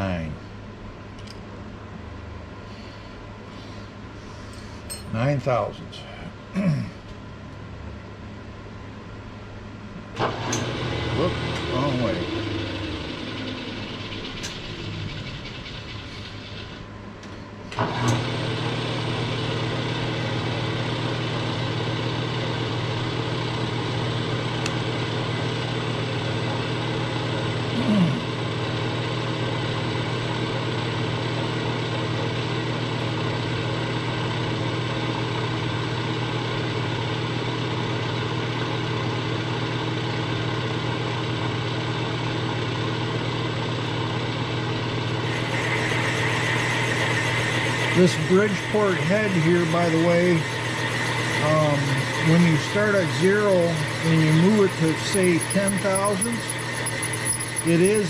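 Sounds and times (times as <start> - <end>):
milling machine spindle hum: 10.0 - 58.0.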